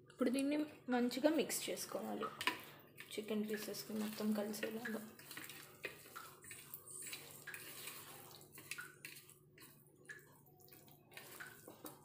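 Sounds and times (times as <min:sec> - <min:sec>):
wet squelching of marinade: 0:01.6 - 0:12.0.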